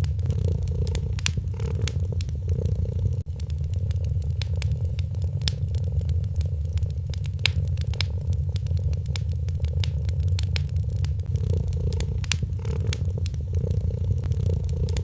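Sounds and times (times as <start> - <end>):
cat purring: 0.0 - 15.0
fireplace crackling and popping: 0.0 - 15.0.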